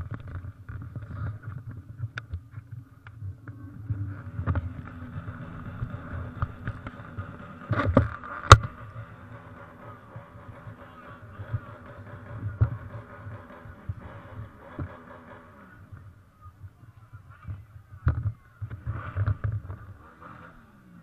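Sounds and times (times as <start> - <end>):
motorcycle engines rumbling: 0.0 - 21.0.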